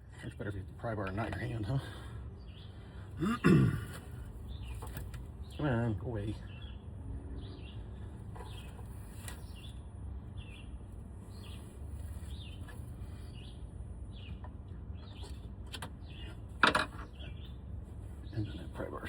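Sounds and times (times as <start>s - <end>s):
low steady rumble: 0.0s - 19.0s
small birds chirping: 0.1s - 19.0s.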